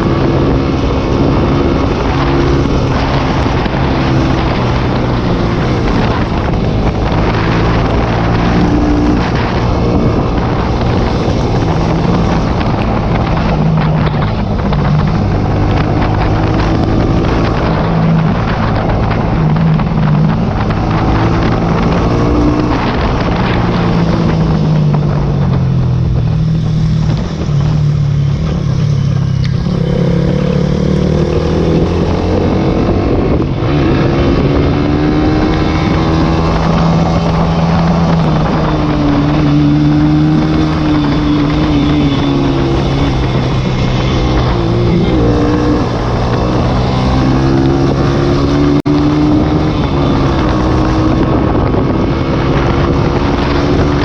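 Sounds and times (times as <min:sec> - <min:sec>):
motorcycle engine accelerating: 0:00.0 - 0:54.0
wind buffeting microphone: 0:00.0 - 0:54.0.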